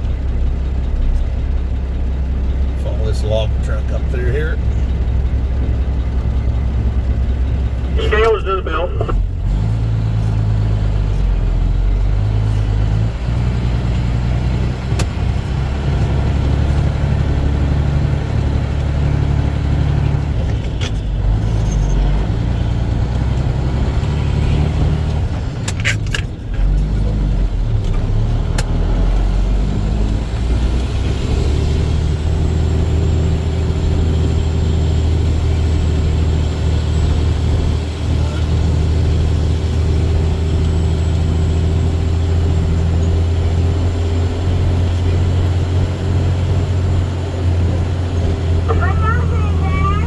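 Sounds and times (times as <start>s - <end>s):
truck diesel engine running: 0.0s - 50.0s.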